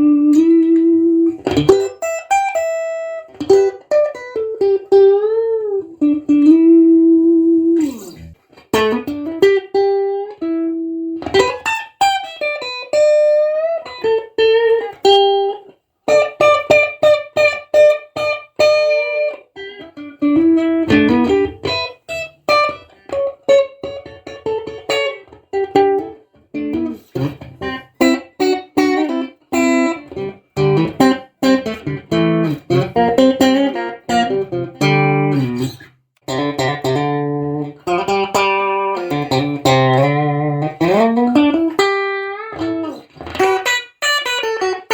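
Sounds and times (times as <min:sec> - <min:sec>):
electric guitar melody and chords: 0:00.0 - 0:44.9.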